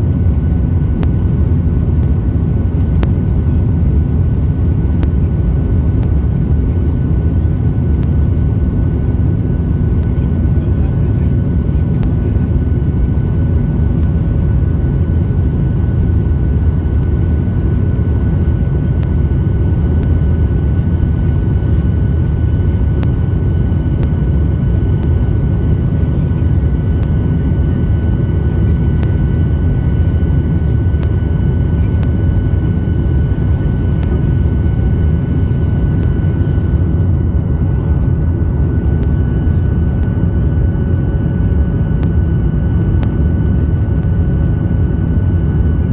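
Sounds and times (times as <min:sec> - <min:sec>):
jet engine low rumble: 0:00.0 - 0:45.9.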